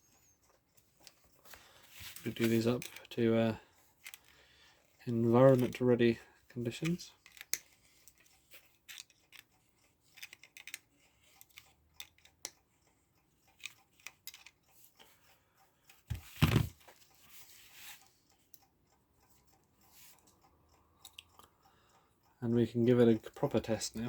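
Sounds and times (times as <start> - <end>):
clicks and taps of clock parts: 0.0 - 24.0.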